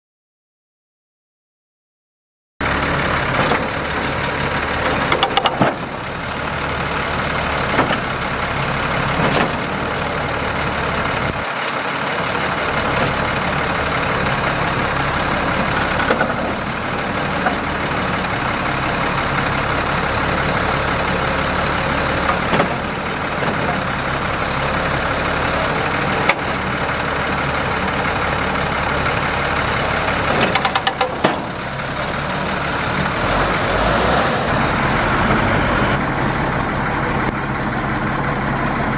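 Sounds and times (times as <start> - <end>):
diesel truck engine idling: 2.6 - 38.9
snowplow clanks and knocks: 2.6 - 38.9.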